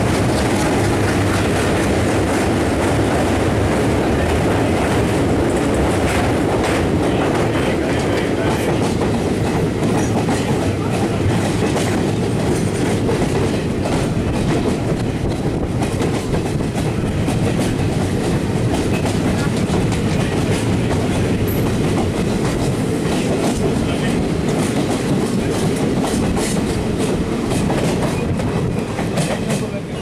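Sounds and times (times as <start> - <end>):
clickety-clack over rail joints: 0.0 - 30.0
train wheels rumbling on rails: 0.0 - 30.0.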